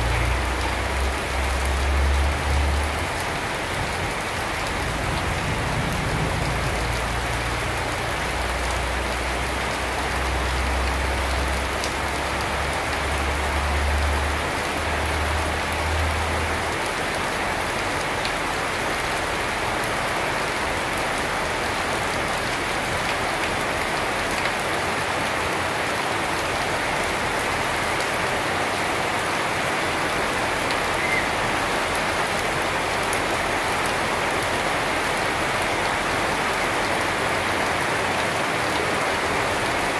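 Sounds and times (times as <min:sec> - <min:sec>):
rain on foliage and wet paving: 0:00.0 - 0:39.9.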